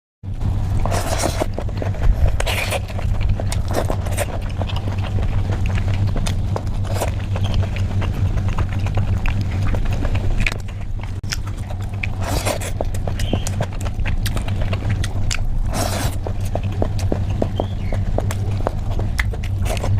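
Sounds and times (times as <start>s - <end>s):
steady low hum: 0.2s - 19.9s
wet chewing smacks: 0.5s - 19.9s.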